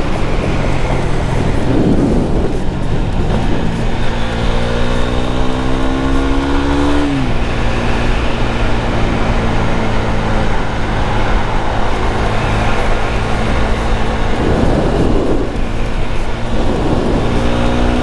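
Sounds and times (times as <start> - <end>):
wind rush on microphone: 0.0 - 18.0.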